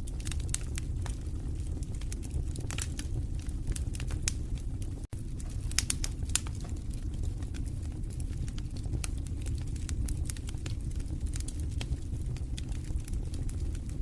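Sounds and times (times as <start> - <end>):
fire crackling and snapping: 0.0 - 14.0
fire rumbling: 0.0 - 14.0.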